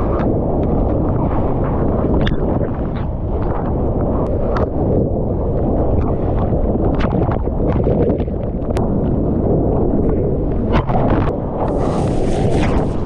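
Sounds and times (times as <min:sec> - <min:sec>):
muffled surf rumble: 0:00.0 - 0:13.0.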